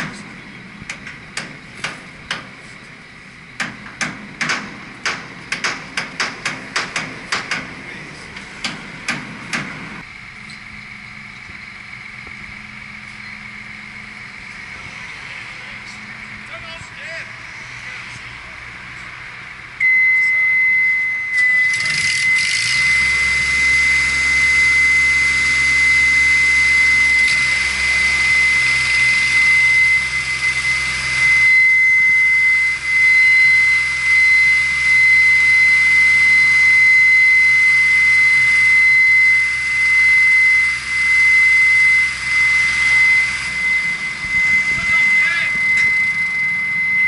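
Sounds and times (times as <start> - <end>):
crane engine low hum: 0.0 - 47.0
high-pitched whine: 0.0 - 47.0.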